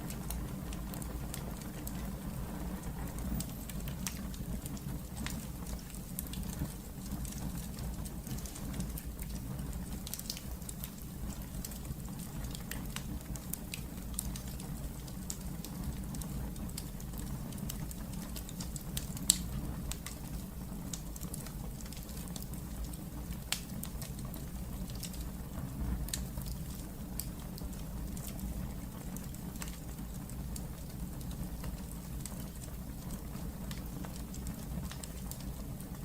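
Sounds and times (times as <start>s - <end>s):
fire crackling and popping: 0.0s - 36.0s
wood fire rumbling: 0.0s - 36.0s.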